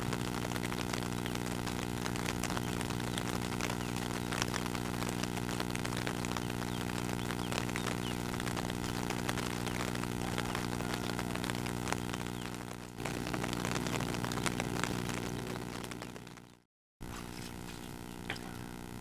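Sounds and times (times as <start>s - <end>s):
rain pattering on water: 0.0s - 16.6s.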